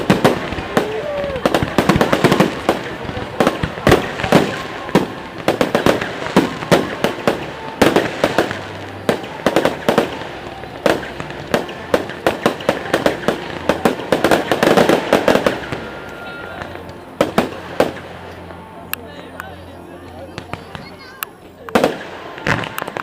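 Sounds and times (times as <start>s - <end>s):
fireworks bursts and bangs: 0.0s - 23.0s.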